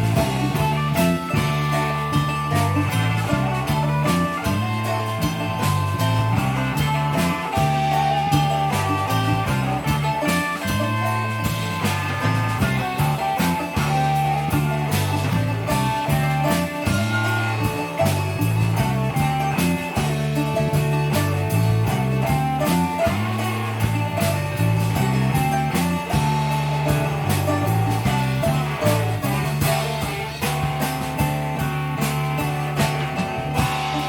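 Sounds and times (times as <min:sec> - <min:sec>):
drums with cymbal strikes: 0:00.0 - 0:34.0
electric bass line: 0:00.0 - 0:34.0
electric guitars playing melodies: 0:00.0 - 0:34.0.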